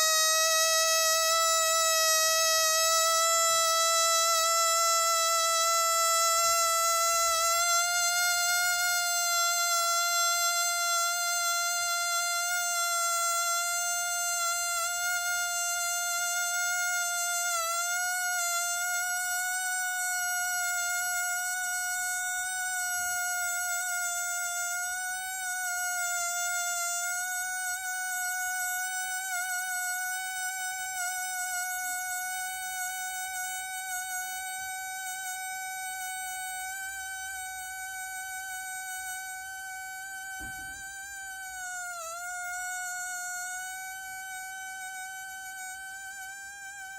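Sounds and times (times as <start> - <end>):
balloon buzzing tone: 0.0 - 46.9.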